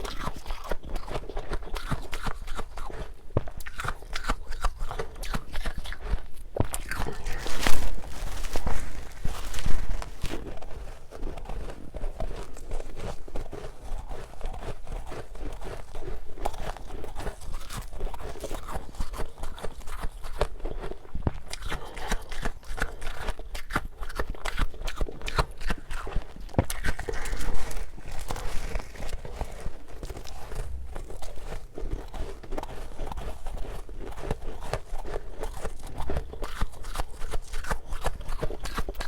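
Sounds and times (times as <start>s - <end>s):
chewing crunchy frost: 0.0s - 39.0s.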